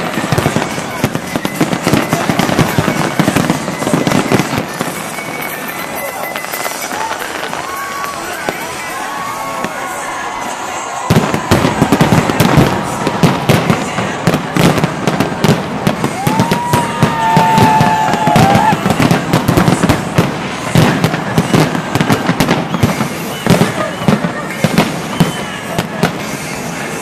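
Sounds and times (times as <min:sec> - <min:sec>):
fireworks bangs and crackling: 0:00.0 - 0:27.0
fireworks whistling: 0:00.0 - 0:27.0.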